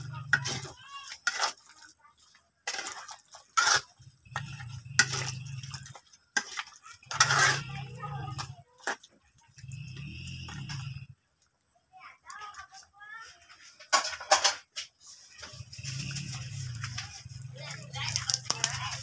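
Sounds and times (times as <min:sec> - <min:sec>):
metal spatula scraping a wok: 0:00.0 - 0:02.0, 0:02.6 - 0:11.2, 0:13.4 - 0:19.0.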